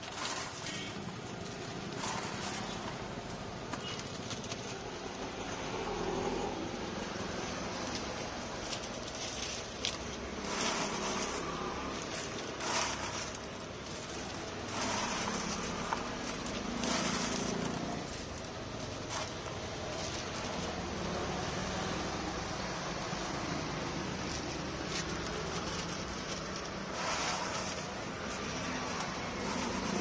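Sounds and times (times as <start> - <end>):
crisp fried snacks rustling: 0.0 - 30.0
plastic bag crinkling: 0.0 - 30.0.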